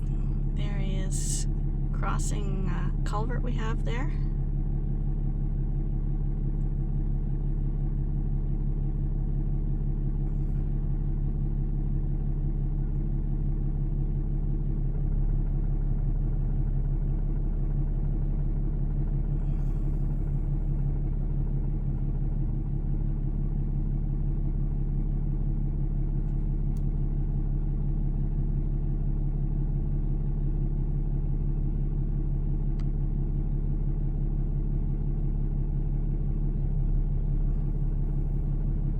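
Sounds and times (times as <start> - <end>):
car engine drone inside cabin: 0.0 - 38.9.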